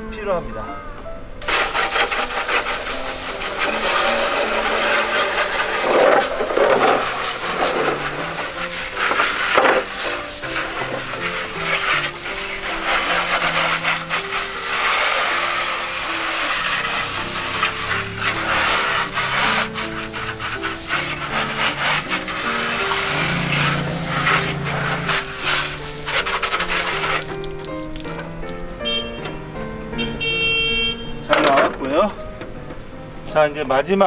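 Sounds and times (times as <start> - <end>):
background music: 0.0 - 34.0
hose water spray hissing: 1.4 - 28.9.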